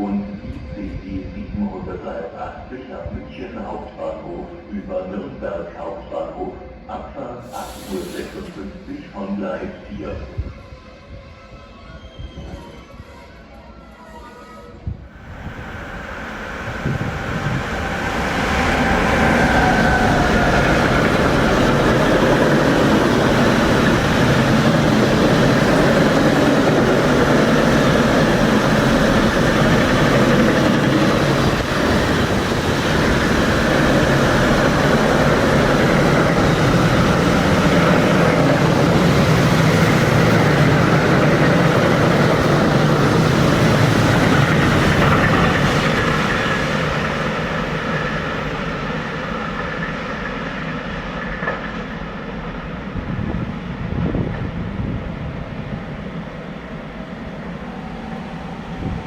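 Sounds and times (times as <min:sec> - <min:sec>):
train wheels rumbling on rail: 0:07.4 - 0:59.0.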